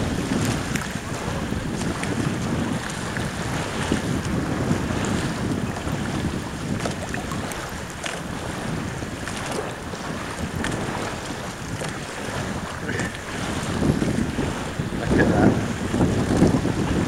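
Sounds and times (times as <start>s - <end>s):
water rushing along hull: 0.0s - 17.0s
water splashing and slapping: 0.0s - 17.0s
wind buffeting microphone: 0.0s - 17.0s.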